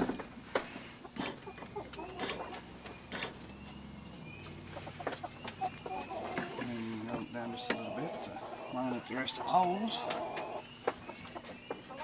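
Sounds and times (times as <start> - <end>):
birds calling faintly: 0.0 - 12.0.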